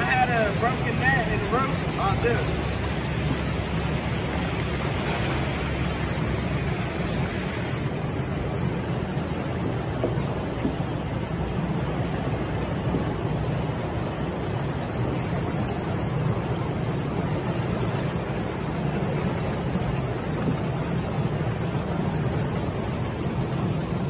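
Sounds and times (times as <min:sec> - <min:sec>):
fast churning water rushing: 0:00.0 - 0:24.0.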